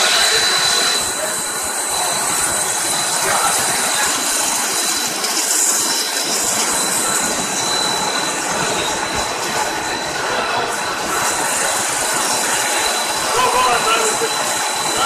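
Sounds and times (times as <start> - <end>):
loud machine noise: 0.0 - 15.0
thin high whine: 0.0 - 15.0.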